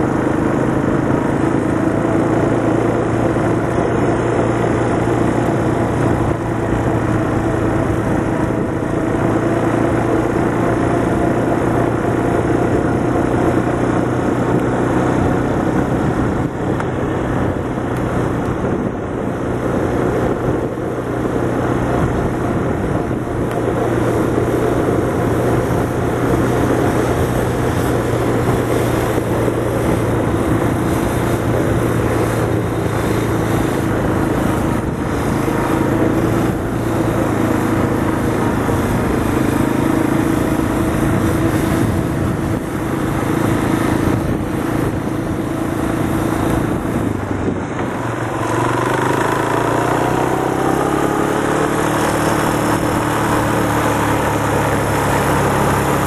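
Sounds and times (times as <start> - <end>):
quad bike engines running: 0.0 - 56.0
wind on microphone: 0.0 - 56.0.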